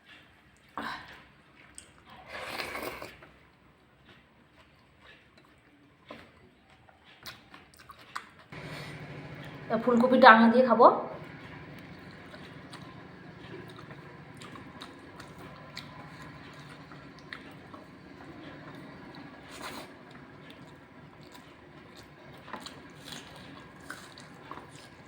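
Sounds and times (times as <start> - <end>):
person chewing food: 0.6 - 9.7, 11.2 - 25.0.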